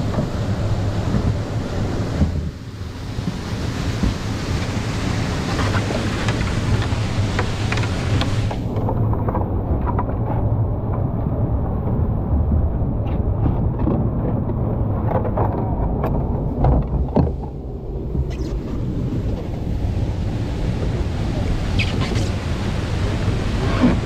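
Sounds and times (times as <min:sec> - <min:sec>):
knocks and splashes: 0:00.0 - 0:24.0
rushing river water: 0:00.0 - 0:24.0.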